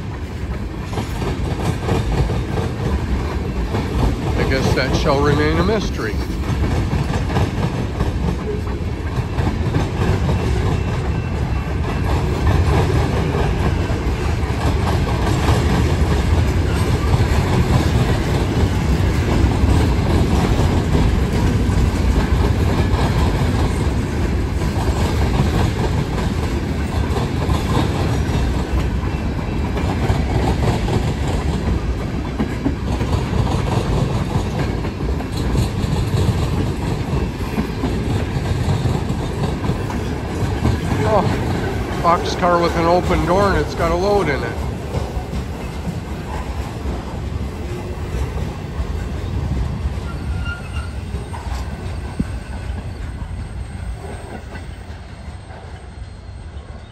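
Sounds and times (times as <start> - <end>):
freight train wheels on rail: 0.0 - 56.9.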